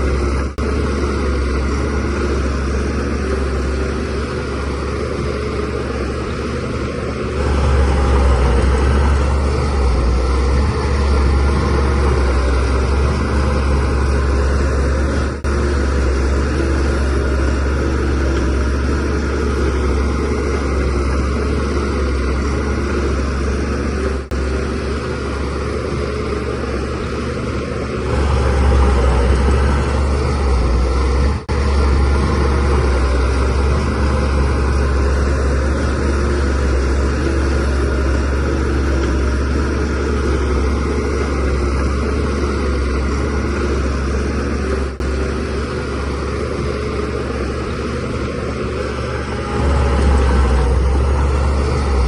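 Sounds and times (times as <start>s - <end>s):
bulldozer diesel engine under load: 0.0s - 52.0s.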